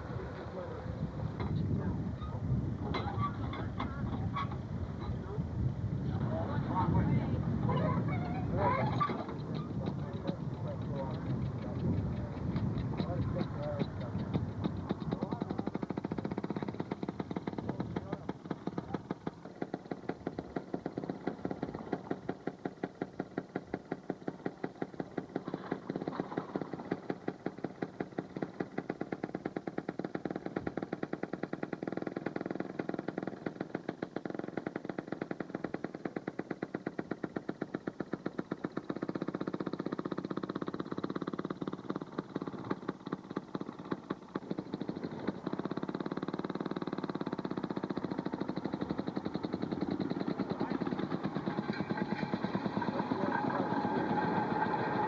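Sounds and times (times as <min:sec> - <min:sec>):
two-stroke engine popping: 0:00.0 - 0:55.0.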